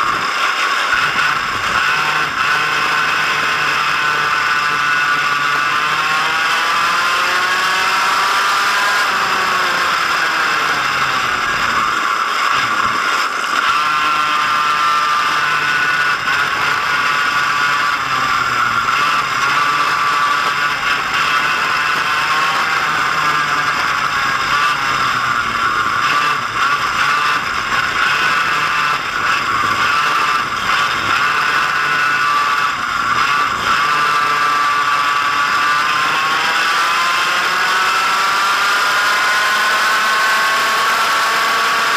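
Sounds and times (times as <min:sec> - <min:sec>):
kart engine at racing revs: 0:00.0 - 0:41.9.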